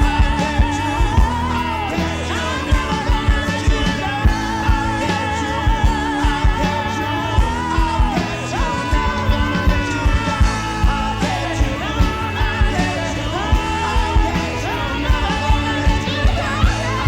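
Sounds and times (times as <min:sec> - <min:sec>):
person singing: 0:00.0 - 0:17.0
rock band song: 0:00.0 - 0:17.0
steady drum beat: 0:00.0 - 0:17.0.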